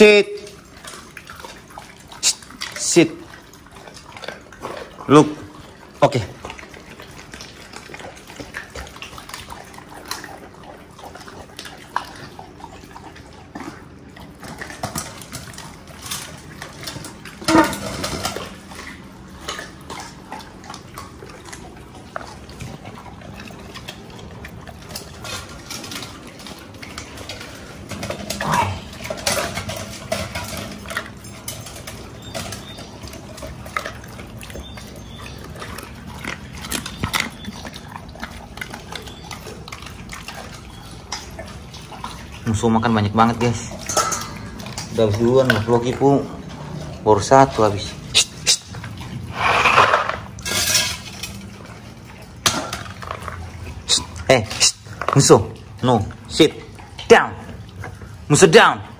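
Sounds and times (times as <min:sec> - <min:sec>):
dogs chewing and crunching bones: 0:00.0 - 0:58.9
dogs licking a metal bowl: 0:00.0 - 0:58.9.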